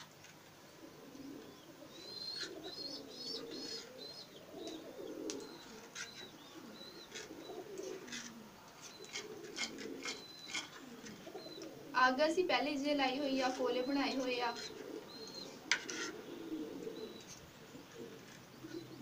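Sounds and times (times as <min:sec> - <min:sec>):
doves cooing: 0:00.0 - 0:19.0
small birds chirping: 0:00.0 - 0:19.0.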